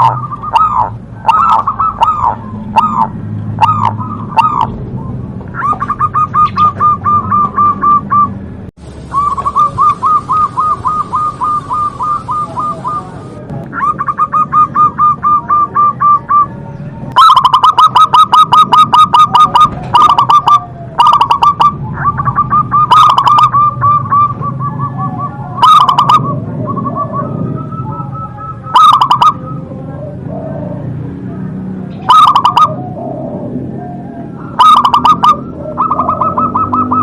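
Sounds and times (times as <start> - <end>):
dove cooing: 0.0 - 8.4, 9.0 - 37.0.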